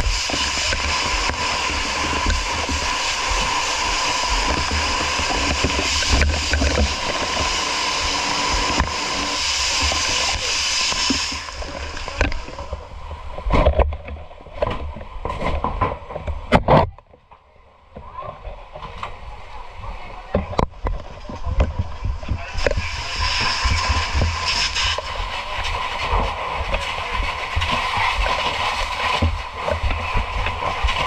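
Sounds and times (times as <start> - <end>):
water spraying from fire hose: 0.0 - 16.6, 18.5 - 31.0
water splashes: 0.0 - 16.9, 18.3 - 31.0.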